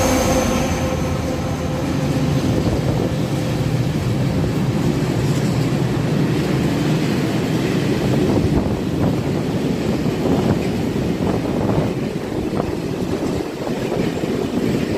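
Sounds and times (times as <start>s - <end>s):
freight train wheels rumbling on rails: 0.0s - 14.9s.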